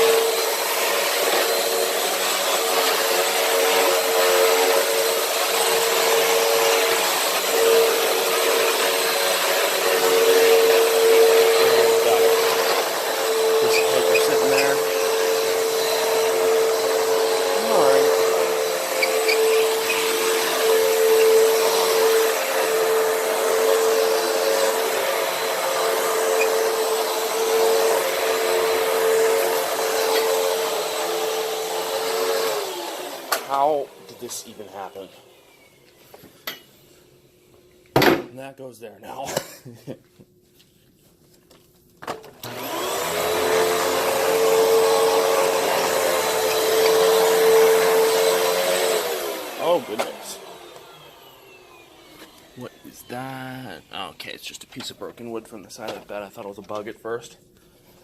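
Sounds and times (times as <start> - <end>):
upright vacuum cleaner running: 0.0 - 36.4, 42.0 - 56.5.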